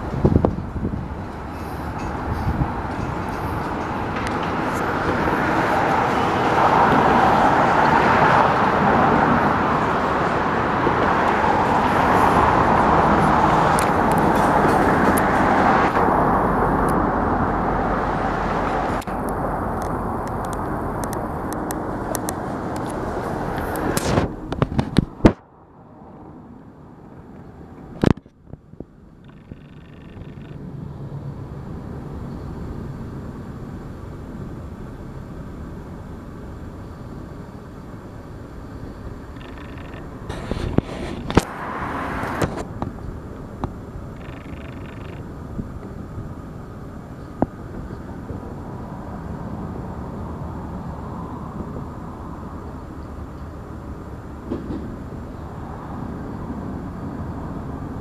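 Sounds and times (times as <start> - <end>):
freight train rumbling: 0.0 - 28.0, 30.6 - 58.0
road traffic noise: 0.0 - 58.0.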